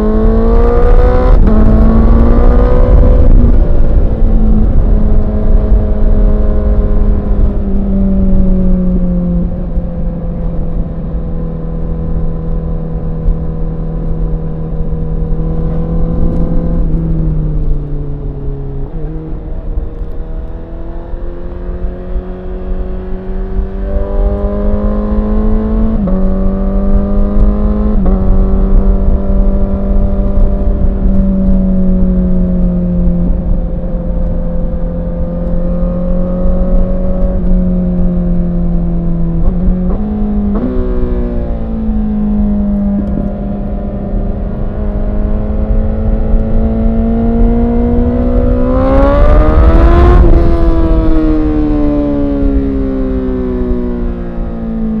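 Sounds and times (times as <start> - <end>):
steady rushing noise: 0.0 - 53.6.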